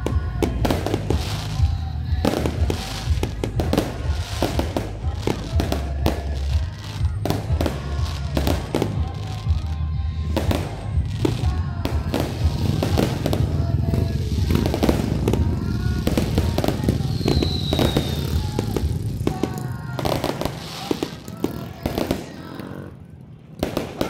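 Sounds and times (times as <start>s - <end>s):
music playing: 0.0s - 23.0s
fireworks bangs and pops: 0.0s - 24.0s.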